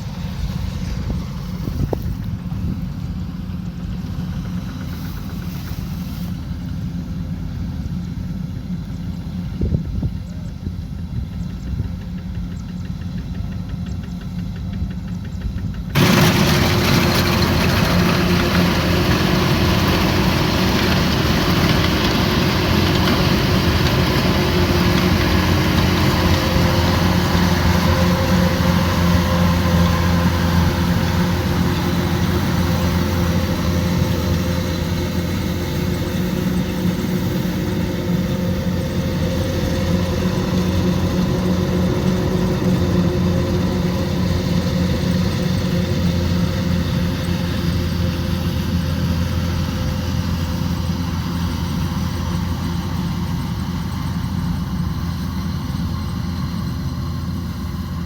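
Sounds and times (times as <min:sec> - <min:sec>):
combine harvester diesel engine: 0:00.0 - 0:58.0.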